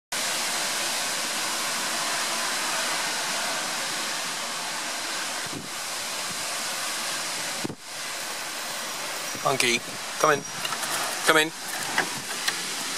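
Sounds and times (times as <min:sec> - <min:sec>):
storm wind through trees: 0:00.2 - 0:12.9.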